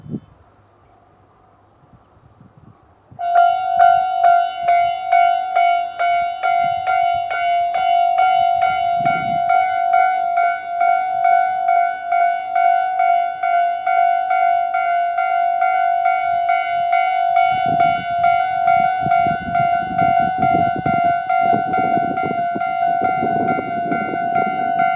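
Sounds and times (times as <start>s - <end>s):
level crossing warning bells: 3.2s - 24.9s.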